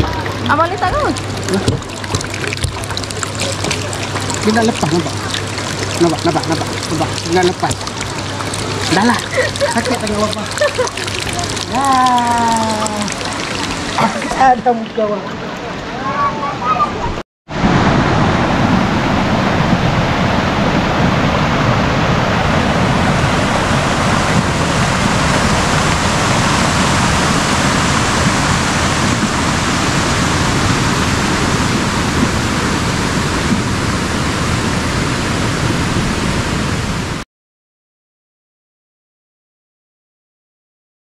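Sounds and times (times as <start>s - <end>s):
river water rushing: 0.0s - 16.7s, 17.6s - 37.2s.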